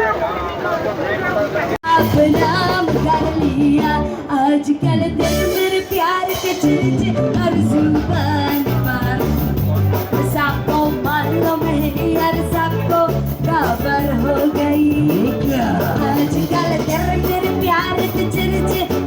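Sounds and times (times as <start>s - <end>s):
song with singing and drums: 1.8s - 19.0s.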